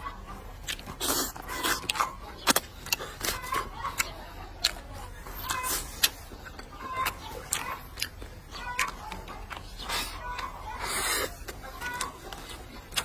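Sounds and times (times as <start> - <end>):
chewing clicks and smacks: 0.6 - 13.0.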